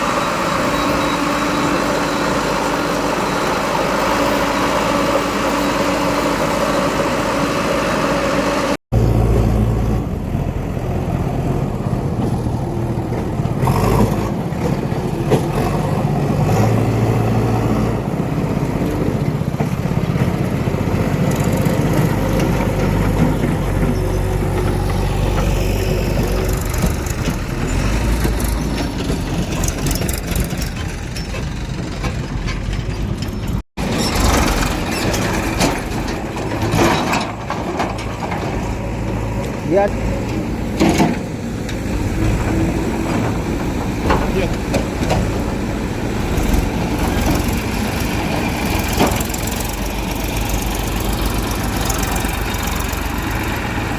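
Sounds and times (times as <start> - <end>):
diesel engines running: 0.0 - 53.9
engine whine: 0.0 - 53.9.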